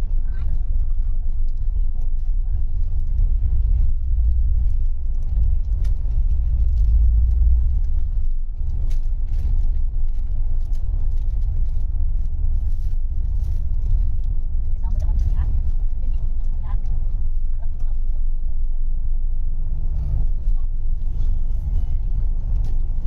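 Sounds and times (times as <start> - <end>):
bus engine and road rumble: 0.0 - 23.0
faint clicks and rattles: 0.0 - 23.0.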